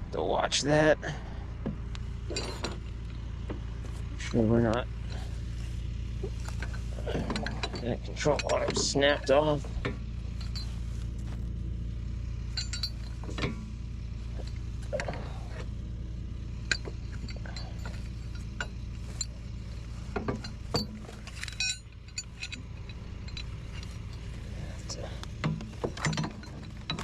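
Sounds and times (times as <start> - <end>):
truck engine idling: 0.0 - 27.0
light metallic clinks: 1.9 - 3.2, 4.2 - 11.5, 12.2 - 15.8, 16.4 - 27.0.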